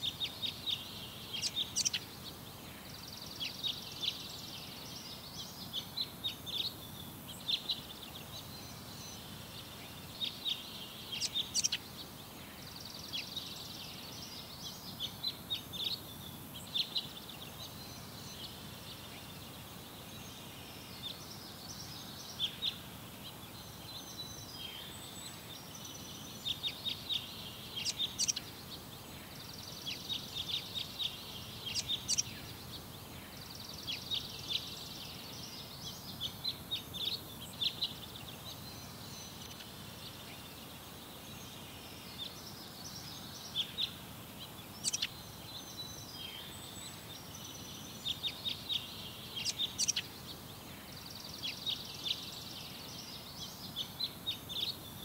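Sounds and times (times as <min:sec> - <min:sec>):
low background hiss: 0:00.0 - 0:55.0
small birds chirping: 0:00.0 - 0:55.0.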